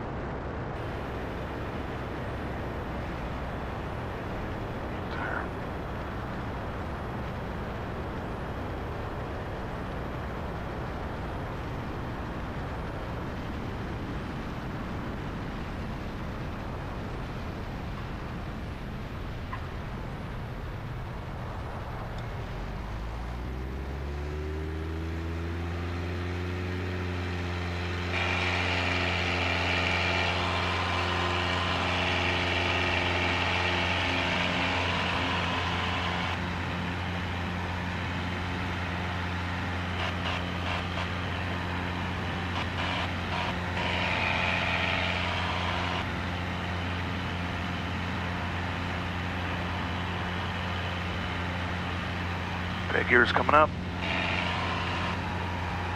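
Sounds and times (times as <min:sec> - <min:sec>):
propeller plane engine drone: 0:00.0 - 0:55.9.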